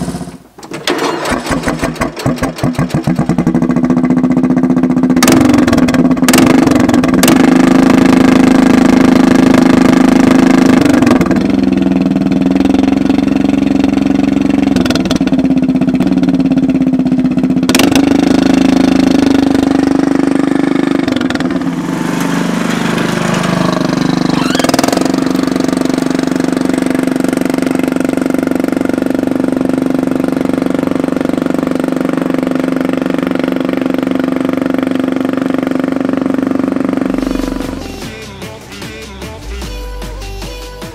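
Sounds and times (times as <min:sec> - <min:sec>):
lawn mower engine drone: 0:00.0 - 0:40.4.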